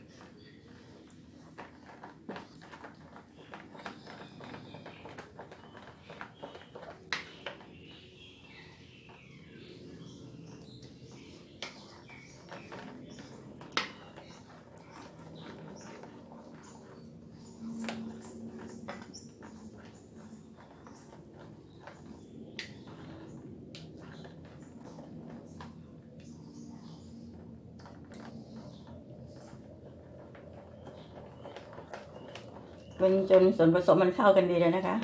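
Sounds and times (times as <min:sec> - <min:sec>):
spatula scraping sticky dough: 0:00.0 - 0:33.6.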